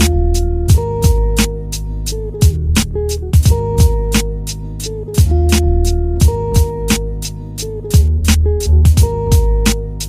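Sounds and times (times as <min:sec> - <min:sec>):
deep kick drums: 0:00.0 - 0:04.4, 0:05.2 - 0:07.3, 0:07.9 - 0:09.8.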